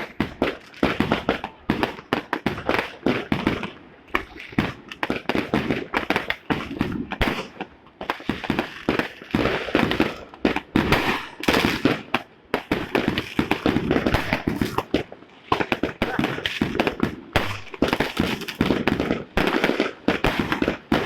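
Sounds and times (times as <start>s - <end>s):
fireworks and firecrackers bangs: 0.0s - 21.0s.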